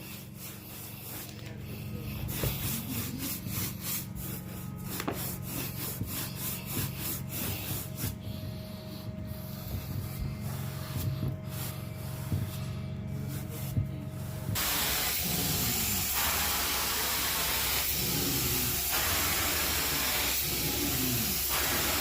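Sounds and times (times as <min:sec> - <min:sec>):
low machine hum: 0:00.0 - 0:21.5
carpet brush scrubbing carpet: 0:00.0 - 0:22.0.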